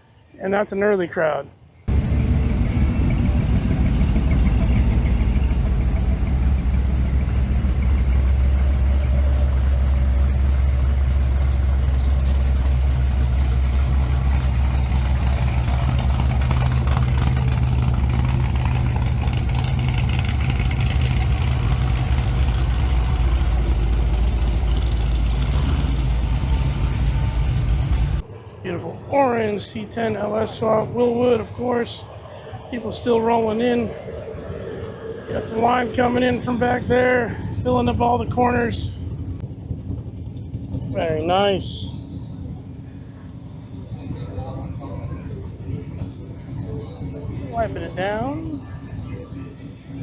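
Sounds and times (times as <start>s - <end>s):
vehicle engine idling: 1.9s - 28.6s, 31.2s - 50.0s.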